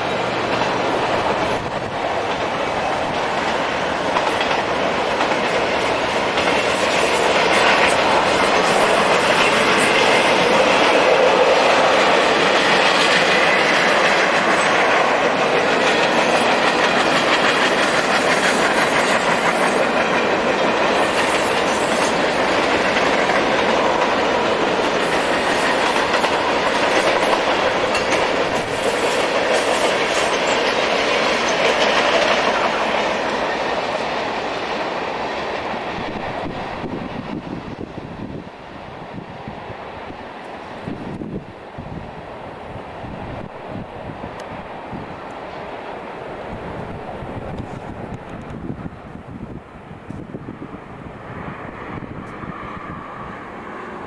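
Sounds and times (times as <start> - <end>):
freight train rumbling clatter: 0.0 - 54.0.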